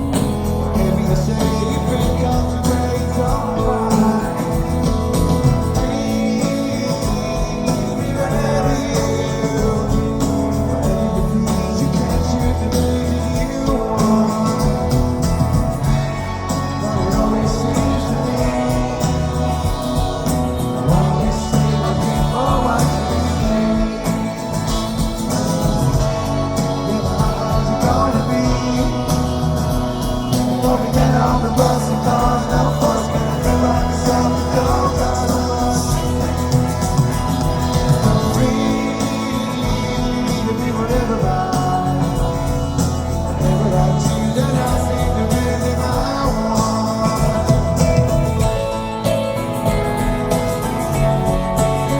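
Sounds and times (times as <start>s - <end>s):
person singing: 0.0s - 49.3s
drum and cymbal hits: 0.0s - 51.9s
rock band playing live: 0.0s - 51.9s.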